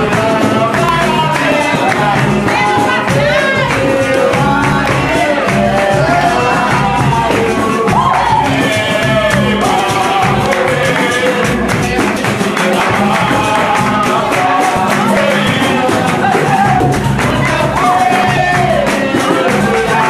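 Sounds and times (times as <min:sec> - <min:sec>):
jingling hand percussion: 0:00.0 - 0:20.0
percussion rhythm: 0:00.0 - 0:20.0
person singing: 0:00.0 - 0:20.0.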